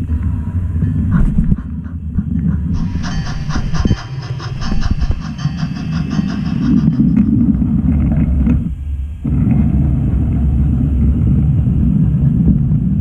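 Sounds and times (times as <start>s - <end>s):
model locomotive rumble: 2.3s - 13.0s.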